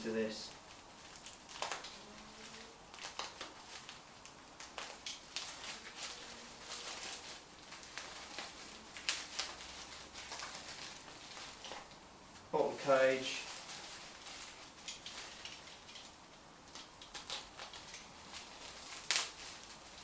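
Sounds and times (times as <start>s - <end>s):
packaging rustling and crinkling: 0.1s - 20.0s.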